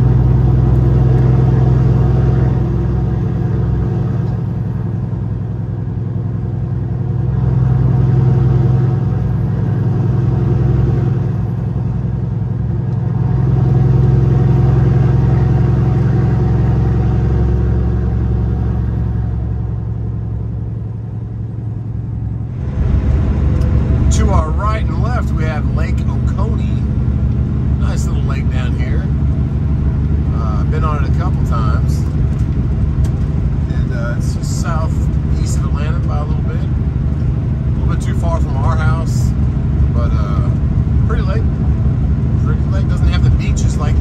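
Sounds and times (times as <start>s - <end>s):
truck diesel engine droning: 0.0s - 44.0s.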